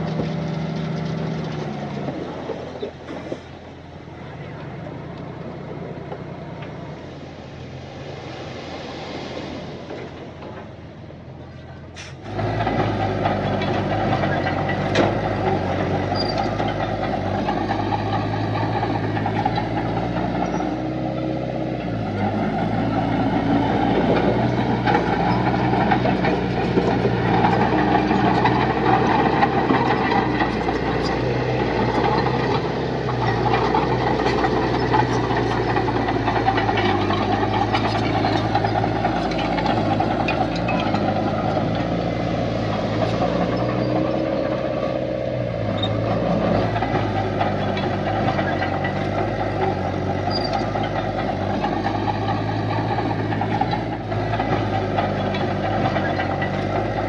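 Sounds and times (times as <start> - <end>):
diesel earthmoving machinery: 0.0 - 57.0.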